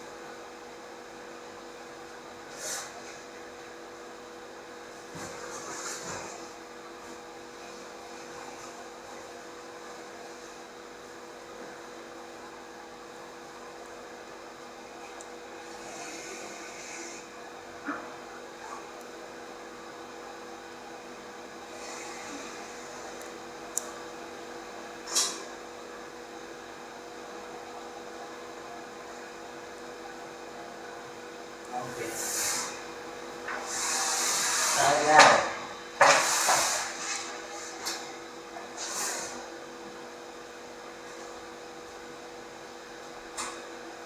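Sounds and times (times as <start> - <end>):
electrical machine hum: 0.0 - 44.0.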